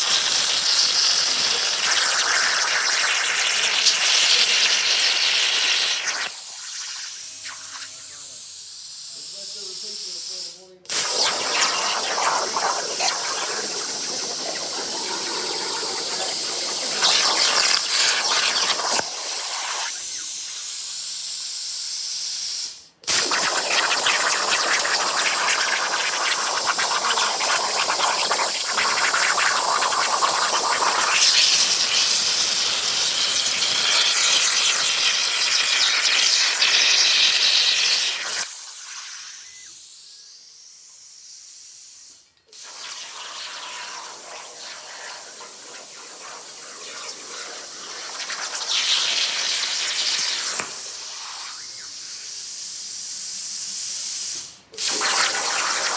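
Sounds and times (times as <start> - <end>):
plasma cutter hissing: 0.0 - 55.9.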